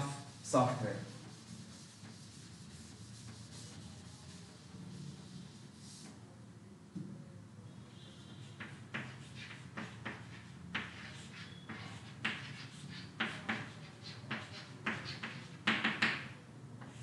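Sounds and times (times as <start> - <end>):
chalk tapping and scratching: 0.0 - 6.2, 8.3 - 17.0.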